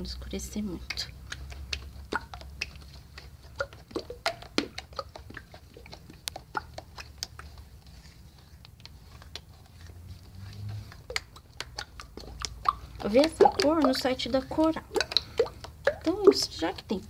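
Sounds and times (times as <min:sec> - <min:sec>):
stirrer clicking in wet paint: 0:00.0 - 0:17.0.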